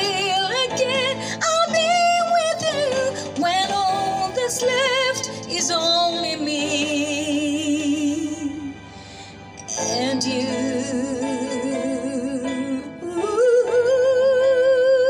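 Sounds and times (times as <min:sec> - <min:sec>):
woman singing: 0:00.0 - 0:08.8, 0:09.6 - 0:15.0.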